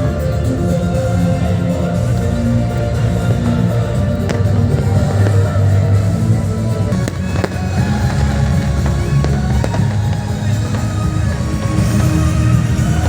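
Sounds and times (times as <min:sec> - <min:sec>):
loud music with bass line: 0:00.0 - 0:13.0
fireworks bangs: 0:01.4 - 0:13.0.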